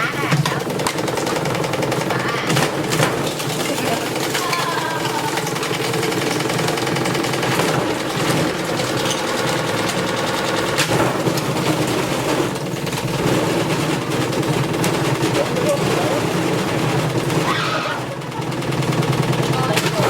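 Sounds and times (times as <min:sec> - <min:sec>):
washing machine motor: 0:00.0 - 0:20.0.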